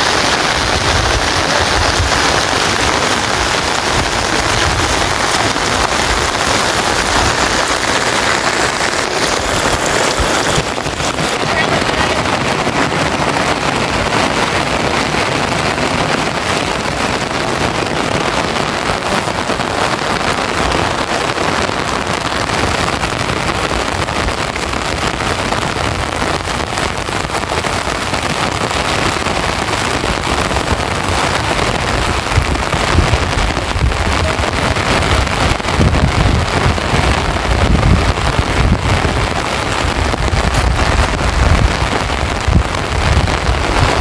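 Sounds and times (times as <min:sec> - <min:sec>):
heavy rain pouring: 0:00.0 - 0:44.0
wind gusting against microphone: 0:00.0 - 0:44.0.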